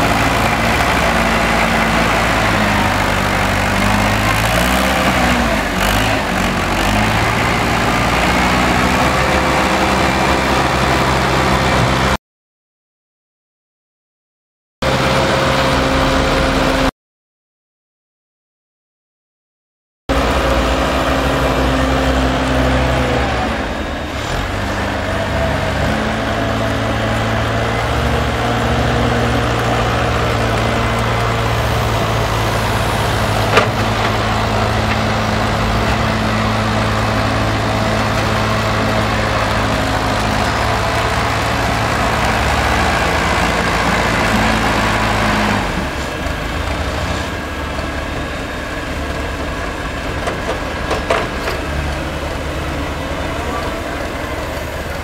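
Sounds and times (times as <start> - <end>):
diesel excavator engine running: 0.0 - 12.2, 14.8 - 16.9, 20.1 - 55.0.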